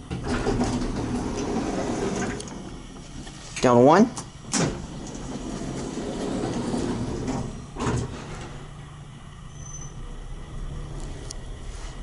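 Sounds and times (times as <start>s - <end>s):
elevator rumble: 0.0s - 3.4s, 4.3s - 12.0s
elevator hum: 0.0s - 12.0s.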